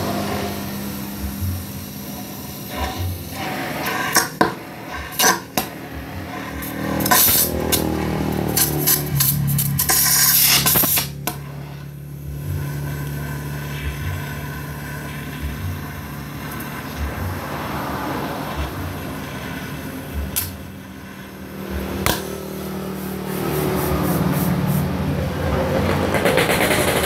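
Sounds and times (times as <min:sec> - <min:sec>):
gas torch flame hissing: 0:00.0 - 0:25.3
low machine hum: 0:00.0 - 0:27.0.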